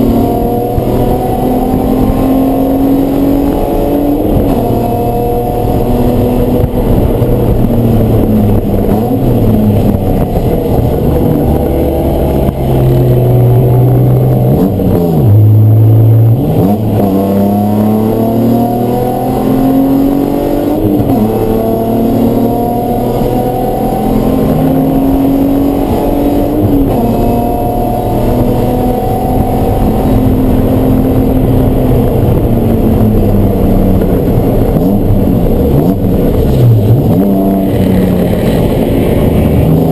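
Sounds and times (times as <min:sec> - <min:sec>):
race car engine revving through gears: 0:00.0 - 0:39.9.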